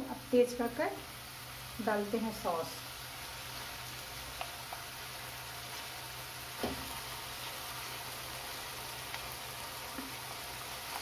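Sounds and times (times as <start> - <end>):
masala sizzling in a pan: 0.0 - 11.0.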